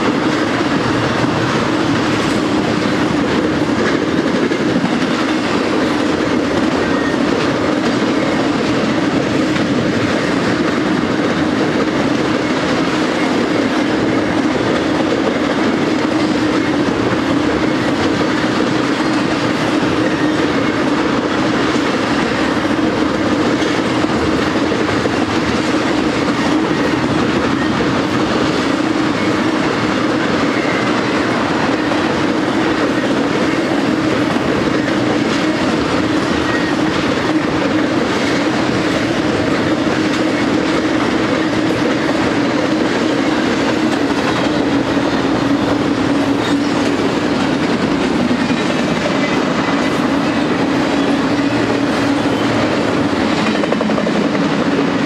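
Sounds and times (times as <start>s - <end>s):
train wheels clickety-clack: 0.0s - 55.0s.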